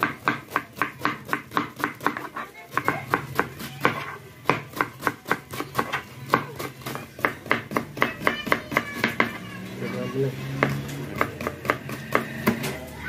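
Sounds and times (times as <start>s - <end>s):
knife chopping on plastic board: 0.0s - 9.4s, 10.6s - 12.8s.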